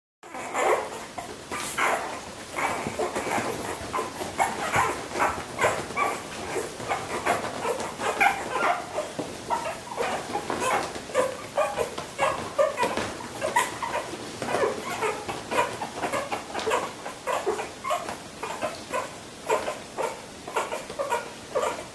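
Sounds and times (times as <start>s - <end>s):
puppies yipping and whimpering: 0.3s - 21.9s.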